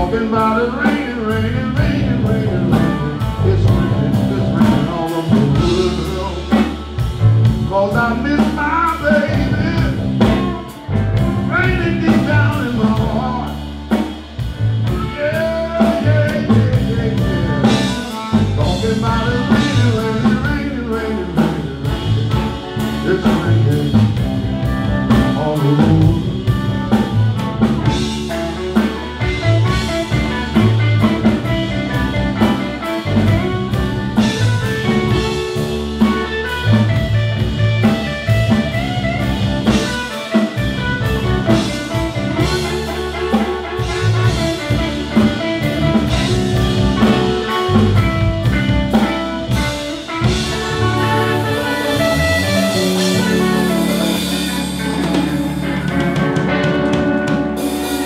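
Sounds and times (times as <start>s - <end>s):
drum kit beat: 0.0s - 58.0s
electric bass: 0.0s - 58.0s
electric guitar: 0.0s - 58.0s
harmonica solo: 0.0s - 58.0s.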